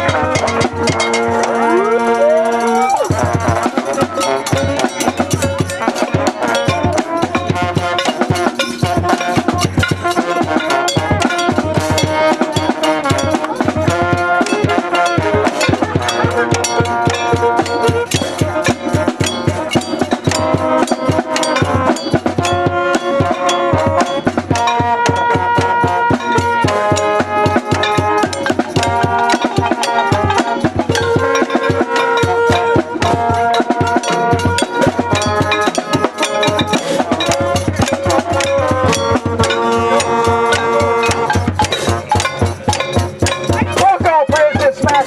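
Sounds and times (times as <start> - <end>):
drums beaten fast: 0.0 - 45.0
held pitched instrument notes: 0.0 - 45.0.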